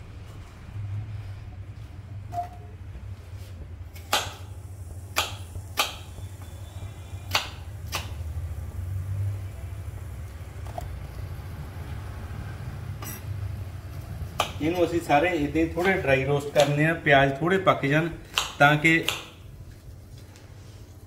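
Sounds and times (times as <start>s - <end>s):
low steady hum: 0.0s - 18.3s.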